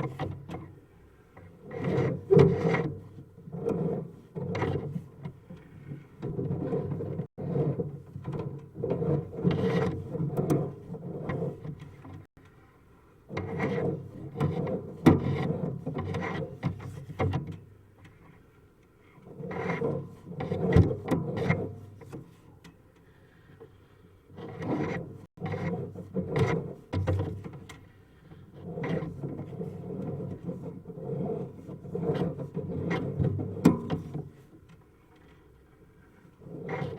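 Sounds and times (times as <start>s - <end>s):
camera cable scraping in pipe: 0.0s - 12.3s, 13.3s - 18.5s, 19.1s - 22.6s, 23.4s - 36.9s.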